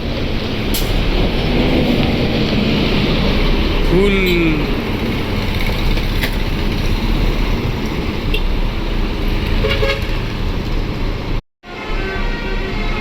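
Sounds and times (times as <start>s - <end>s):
bus and traffic engine rumble: 0.0s - 13.0s.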